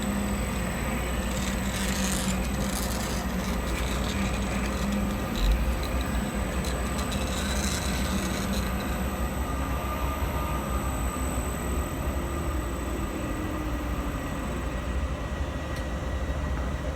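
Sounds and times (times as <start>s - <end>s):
faint high whine: 0.0s - 15.6s
machine tool low hum: 0.0s - 16.9s.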